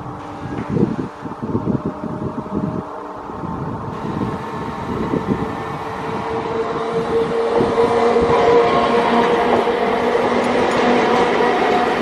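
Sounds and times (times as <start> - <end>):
electric train passing: 0.0 - 12.0
train whine: 0.0 - 12.0.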